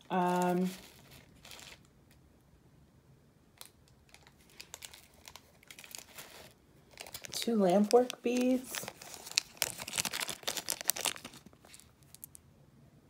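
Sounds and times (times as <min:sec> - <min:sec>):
plastic bag crinkling: 0:00.0 - 0:01.9, 0:03.6 - 0:12.4.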